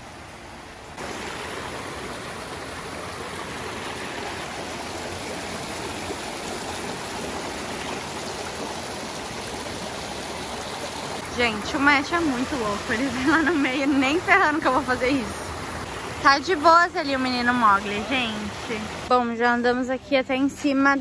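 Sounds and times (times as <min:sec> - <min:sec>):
stream rushing over stones: 0:00.0 - 0:19.1.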